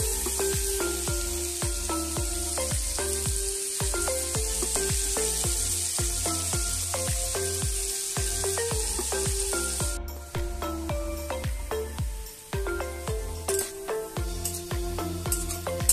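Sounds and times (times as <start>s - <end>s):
background music with beat: 0.0s - 15.9s
potatoes sizzling in oil: 0.0s - 15.9s.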